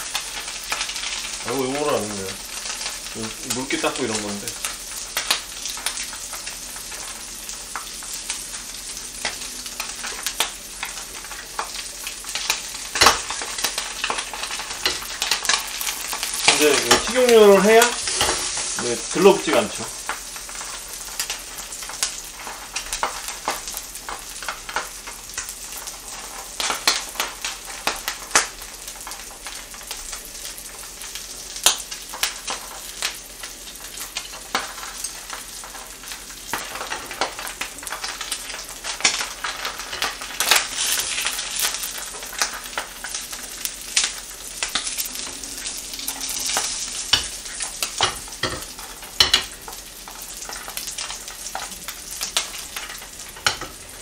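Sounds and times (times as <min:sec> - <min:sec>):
fish sizzling in oil: 0:00.0 - 0:54.0
spattering oil crackling: 0:00.0 - 0:54.0.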